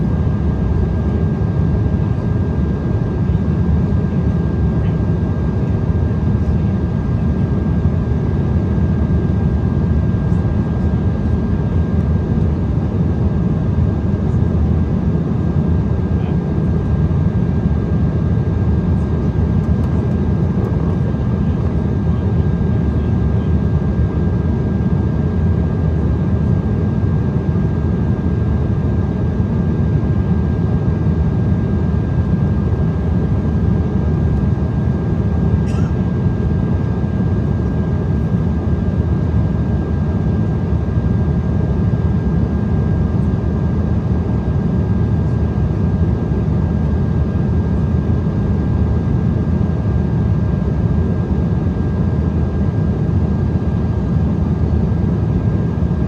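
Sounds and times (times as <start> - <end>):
airliner cabin airflow and engines: 0.0 - 56.0.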